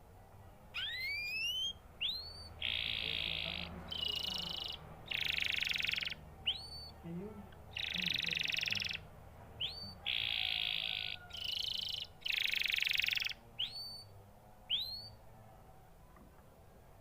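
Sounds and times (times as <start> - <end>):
canary singing trills: 0.7 - 15.3.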